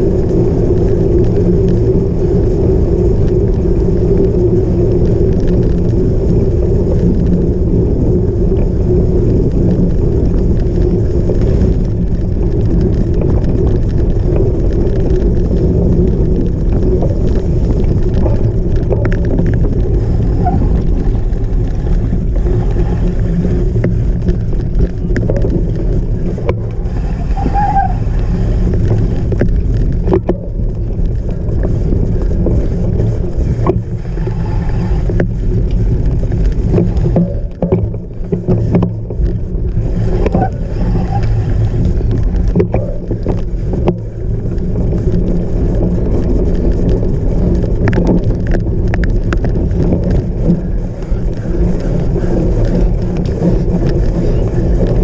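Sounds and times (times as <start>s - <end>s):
bike rattling: 0.0s - 55.0s
wind rumble on microphone: 0.0s - 55.0s.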